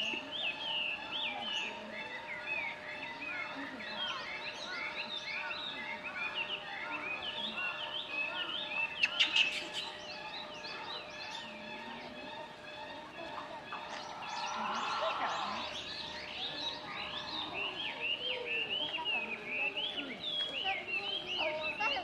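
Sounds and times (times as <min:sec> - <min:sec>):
high chirping animal calls: 0:00.0 - 0:22.0.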